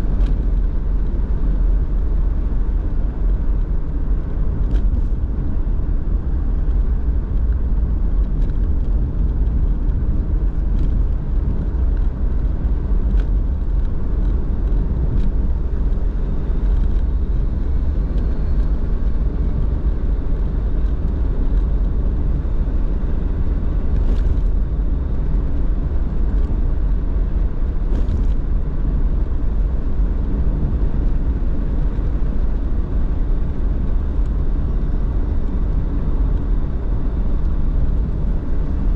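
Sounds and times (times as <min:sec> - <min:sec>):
car engine rumble: 0:00.0 - 0:38.9
tyre road noise: 0:00.0 - 0:38.9.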